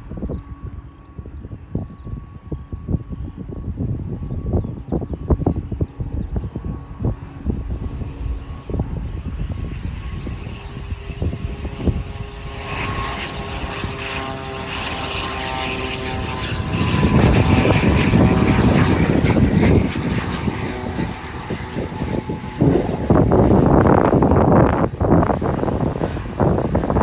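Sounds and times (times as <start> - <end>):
turboprop propeller drone: 0.0 - 27.0.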